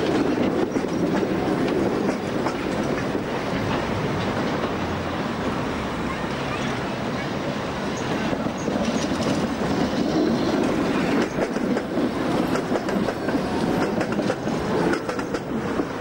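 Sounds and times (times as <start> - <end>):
wheels clicking over track: 0.0 - 6.0, 7.9 - 16.0
tram wheels rumbling on rails: 0.0 - 16.0.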